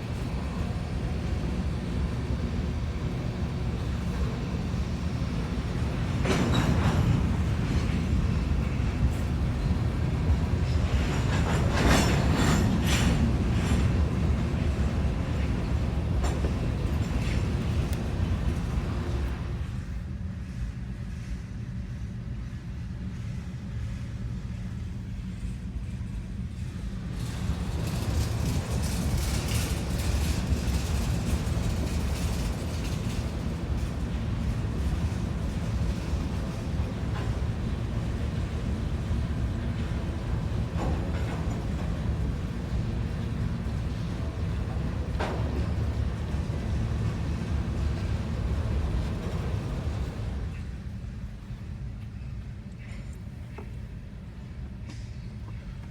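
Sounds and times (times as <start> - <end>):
freight train rolling on rails: 0.0 - 55.9.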